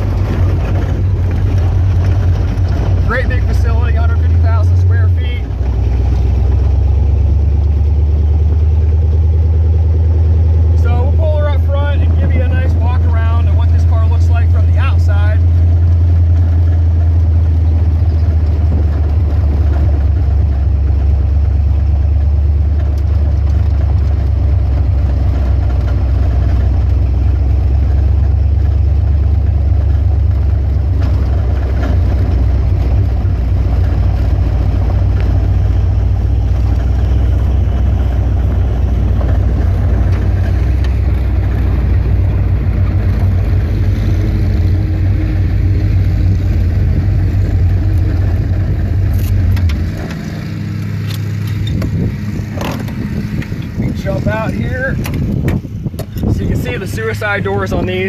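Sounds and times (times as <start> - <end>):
car engine rumbling near idle: 0.0 - 58.0.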